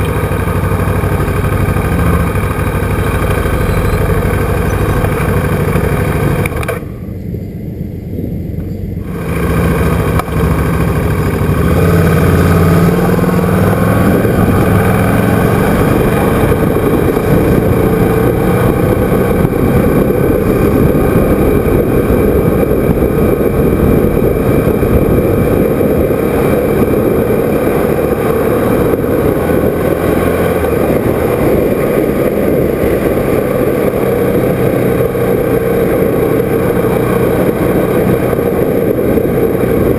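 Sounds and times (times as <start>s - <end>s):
motorcycle engine accelerating: 0.0s - 39.9s
wind on microphone: 4.3s - 39.9s.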